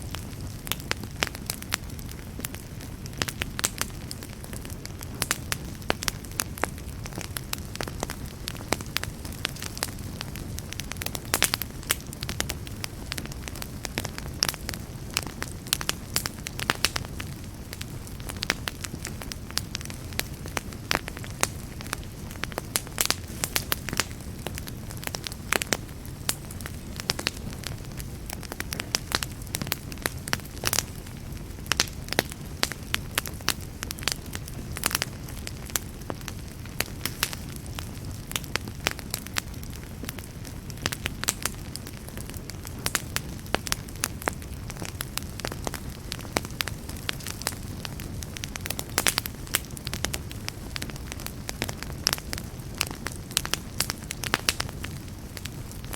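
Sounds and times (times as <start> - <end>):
fire crackling and popping: 0.0 - 55.9
wood fire rumbling: 0.0 - 55.9.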